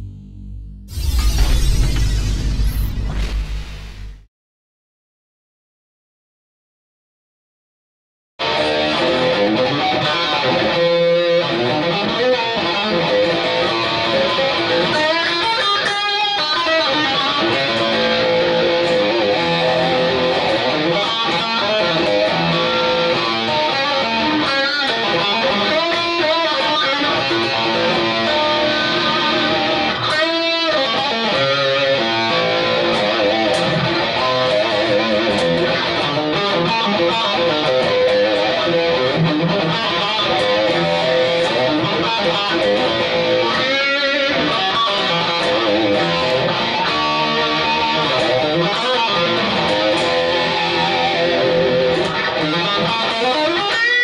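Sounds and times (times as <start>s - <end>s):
electric guitar playing: 8.4s - 54.0s.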